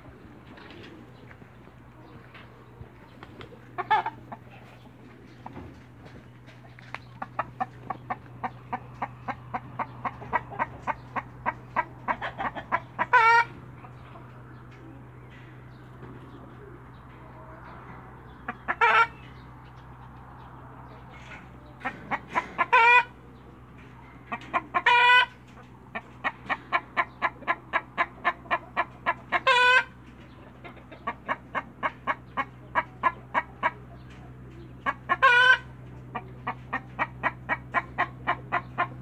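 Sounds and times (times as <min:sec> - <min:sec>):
chicken cackling and squawking: 0:00.0 - 0:39.0.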